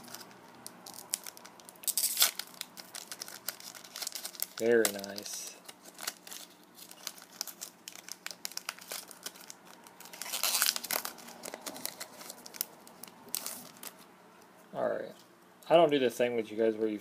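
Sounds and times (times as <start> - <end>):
wrapper tearing: 0.0 - 14.0
foil wrapper crinkling: 0.0 - 14.1.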